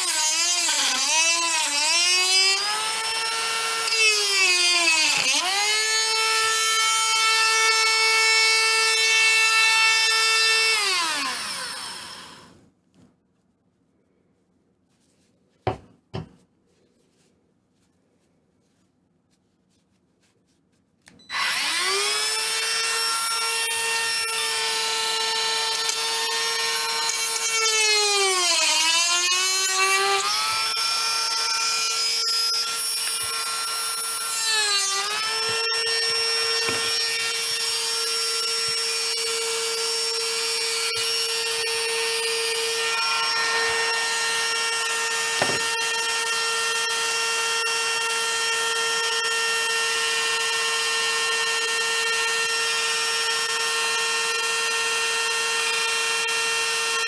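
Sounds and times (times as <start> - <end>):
rotary tool motor whining: 0.0 - 12.6, 21.2 - 57.0.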